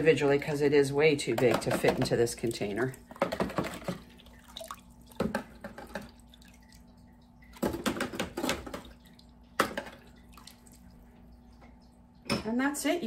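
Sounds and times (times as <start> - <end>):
water splashing: 0.0 - 12.0
faint steady hum: 0.0 - 13.0.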